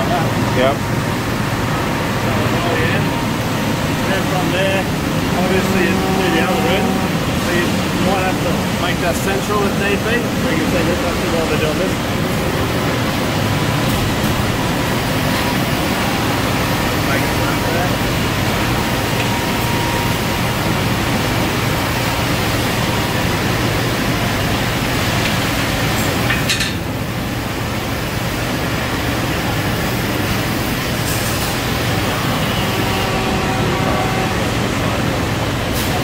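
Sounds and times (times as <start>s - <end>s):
workshop machinery hum: 0.0s - 36.0s.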